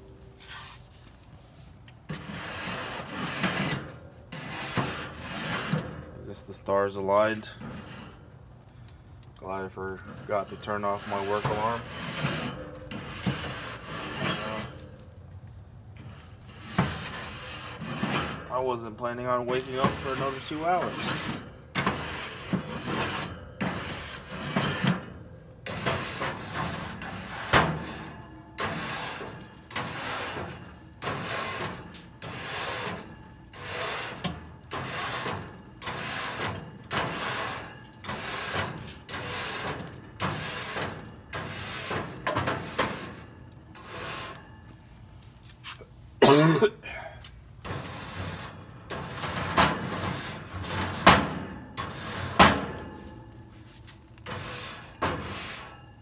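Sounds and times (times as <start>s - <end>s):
scraping inside a grill: 0.0s - 46.6s, 47.4s - 56.0s.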